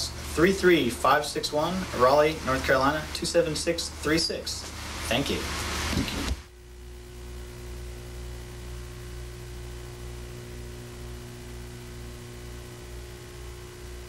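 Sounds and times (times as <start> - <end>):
electrical mains hum: 0.0 - 14.0
tape hiss: 0.0 - 14.0.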